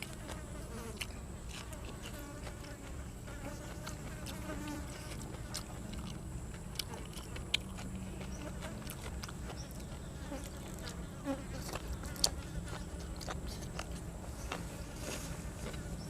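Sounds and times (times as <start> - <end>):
crisp crunches of chewing: 0.0 - 3.0, 3.8 - 16.0.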